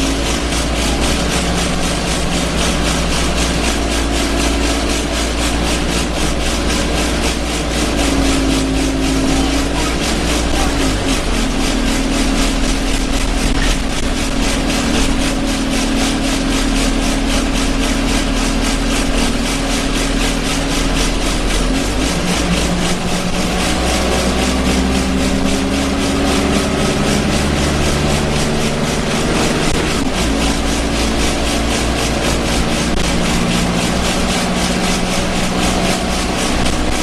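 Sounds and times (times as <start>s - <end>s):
bus body vibration and rattling: 0.0s - 37.0s
bus diesel engine droning: 0.0s - 37.0s.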